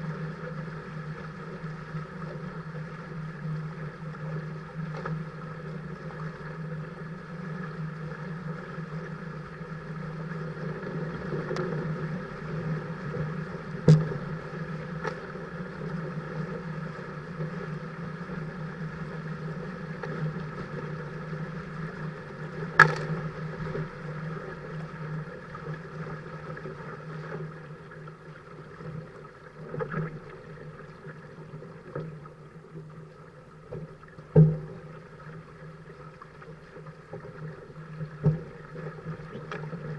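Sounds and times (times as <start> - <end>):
rushing water: 0.0 - 39.9
steady hum: 0.0 - 39.9.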